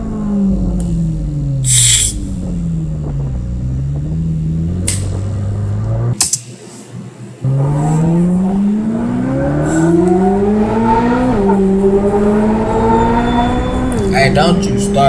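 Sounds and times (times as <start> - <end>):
car engine accelerating hard: 0.0 - 6.2, 7.4 - 15.0.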